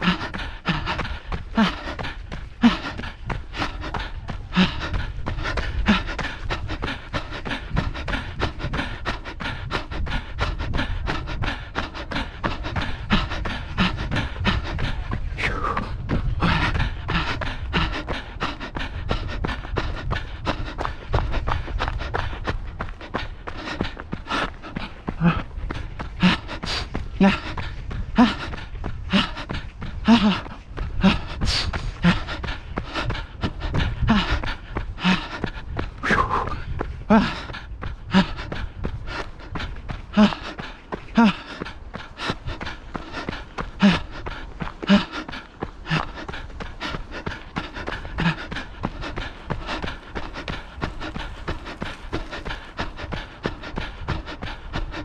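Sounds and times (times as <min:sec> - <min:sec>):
runner breathing hard: 0:00.0 - 0:55.0
running strides: 0:00.0 - 0:55.0.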